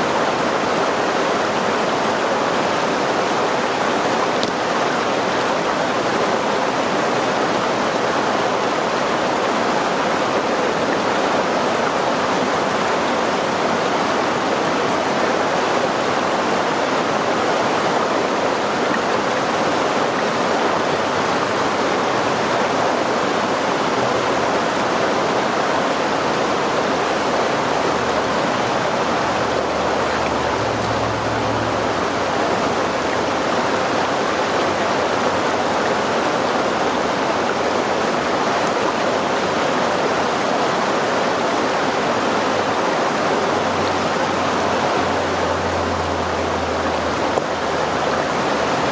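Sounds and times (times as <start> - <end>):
river stream rushing: 0.0 - 48.9.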